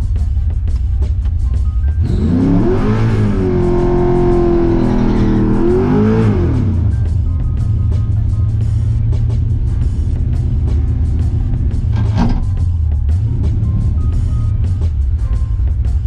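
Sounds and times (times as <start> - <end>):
car engine revving: 0.0 - 16.0
music with a steady beat: 0.0 - 16.0.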